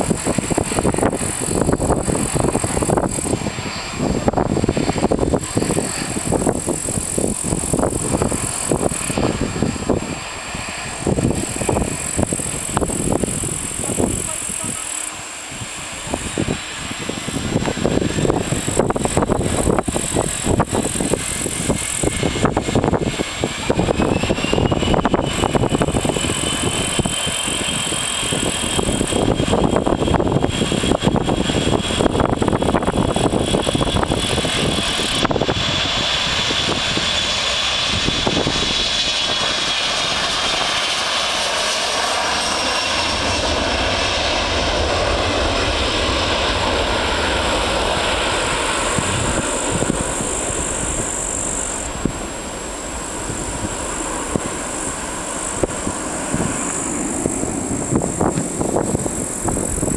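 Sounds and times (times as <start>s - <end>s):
jet engines whining: 0.0s - 59.9s
runway rumble and rattling: 0.0s - 59.9s.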